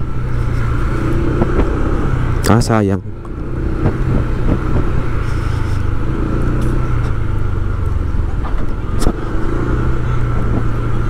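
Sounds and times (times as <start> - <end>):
vehicle engine hum with road noise: 0.0 - 11.0.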